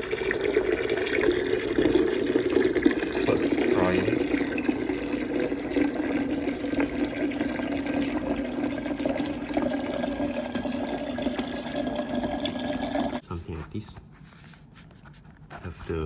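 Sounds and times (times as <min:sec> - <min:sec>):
water running into kettle: 0:00.0 - 0:13.2.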